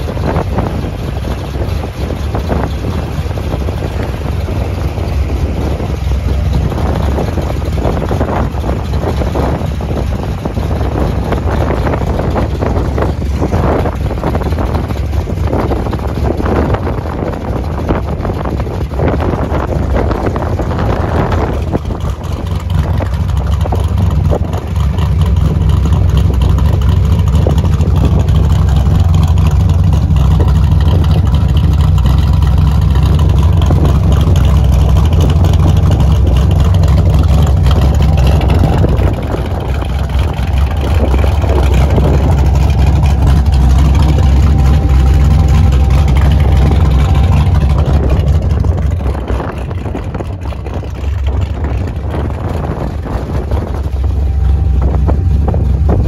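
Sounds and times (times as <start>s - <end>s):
engine idling exhaust rumble: 0.0s - 56.0s.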